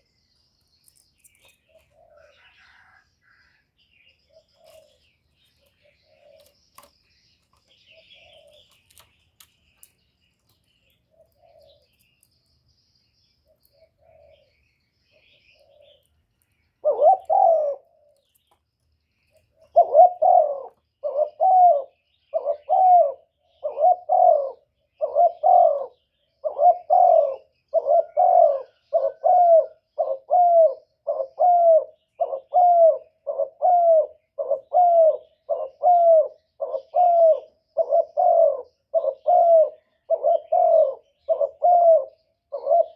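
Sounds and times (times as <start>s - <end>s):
dove cooing: 0.9s - 6.9s, 7.6s - 9.0s, 11.1s - 12.0s, 13.5s - 16.1s, 16.8s - 18.3s, 19.4s - 42.9s.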